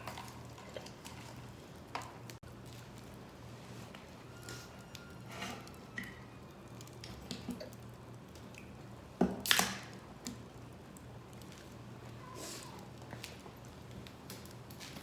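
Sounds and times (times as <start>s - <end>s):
nuts crackling while roasting: 0.0s - 15.0s.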